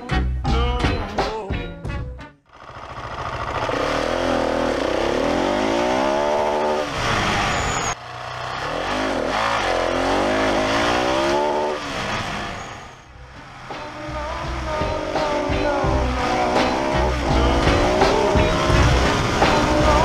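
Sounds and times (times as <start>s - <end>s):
motorcycle engine accelerating: 2.5s - 20.0s.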